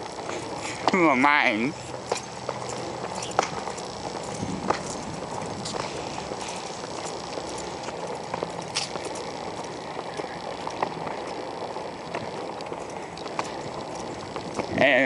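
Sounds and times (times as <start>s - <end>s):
footsteps: 0.0s - 15.0s
outdoor hiss: 0.0s - 15.0s.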